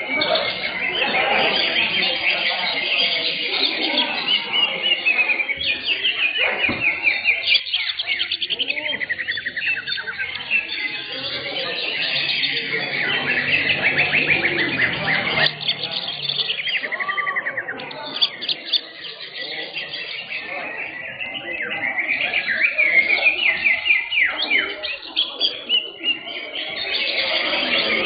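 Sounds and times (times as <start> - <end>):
chorus of birds singing: 0.0 - 28.0.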